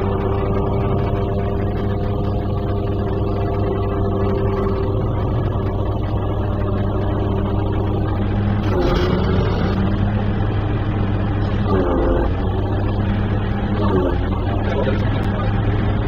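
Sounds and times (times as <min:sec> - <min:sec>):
crane engine running under load: 0:00.0 - 0:16.0.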